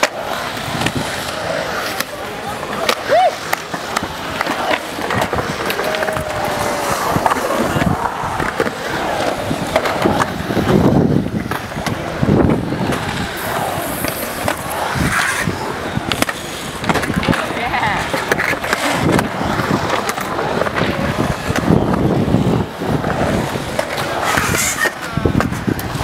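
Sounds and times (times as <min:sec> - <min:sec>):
skateboard clacks: 0:00.0 - 0:26.0
skateboard wheels rolling on concrete: 0:00.0 - 0:26.0.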